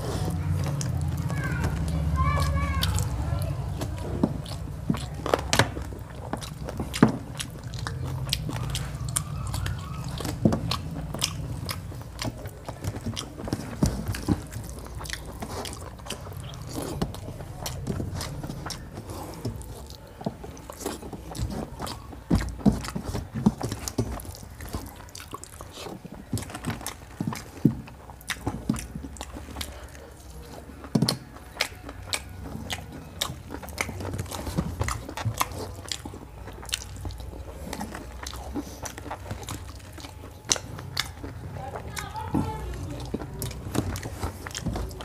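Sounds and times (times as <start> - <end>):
fingers mixing rice on plate: 0.0 - 45.0
person chewing: 0.0 - 45.0.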